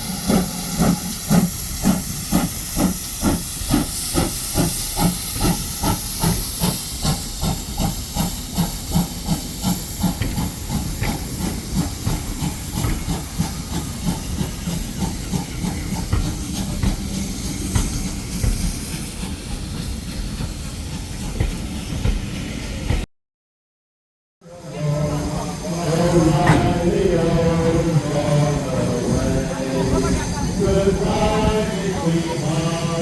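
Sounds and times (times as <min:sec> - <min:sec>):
steam hiss: 0:00.0 - 0:22.9, 0:24.6 - 0:33.0
steam locomotive chuffing: 0:00.0 - 0:23.1, 0:24.5 - 0:33.0.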